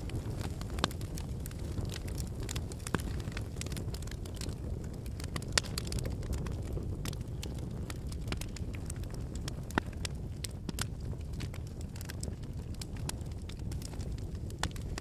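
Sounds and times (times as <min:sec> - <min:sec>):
campfire flames rumbling: 0:00.0 - 0:15.0
firewood crackling and popping: 0:00.0 - 0:15.0.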